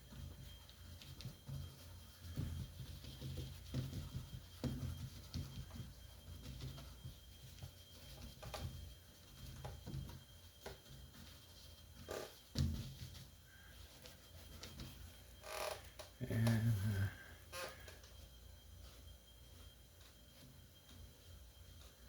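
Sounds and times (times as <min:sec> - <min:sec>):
paintbrush strokes on canvas: 0:00.0 - 0:22.0
steady low hum: 0:00.0 - 0:22.0.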